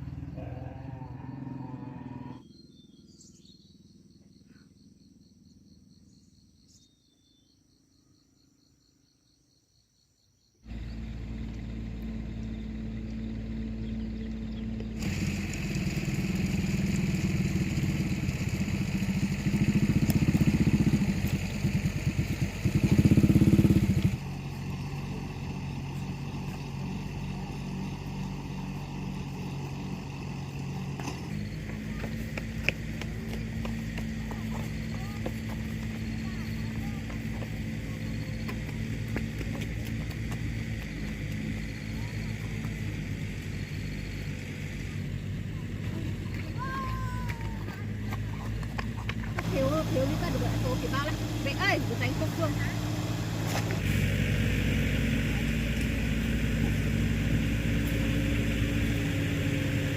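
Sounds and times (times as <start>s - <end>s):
small engine running: 10.7s - 59.9s.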